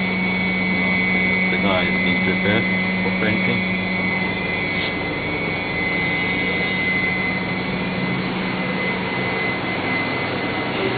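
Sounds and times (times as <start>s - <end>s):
machinery droning with whine: 0.0s - 10.9s.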